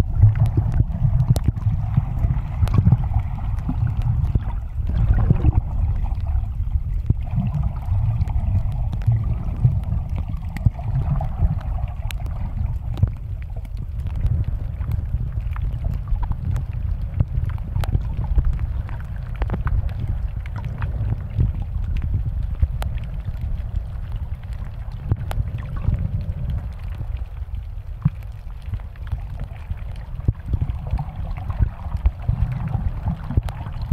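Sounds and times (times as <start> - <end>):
faint hum: 0.0 - 33.9
muffled underwater rumble: 0.0 - 33.9
sharp underwater clicks and crackles: 0.0 - 33.9.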